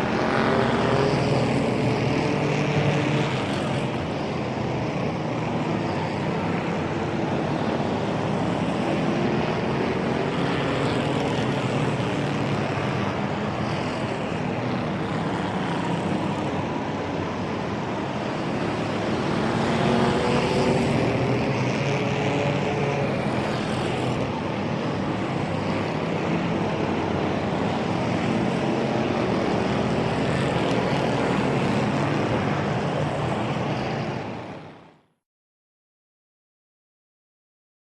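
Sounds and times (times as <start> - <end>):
racing engines droning: 0.0 - 35.0.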